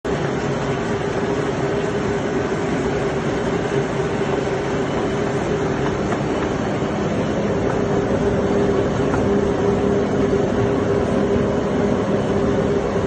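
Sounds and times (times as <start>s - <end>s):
lathe humming: 0.1s - 13.0s.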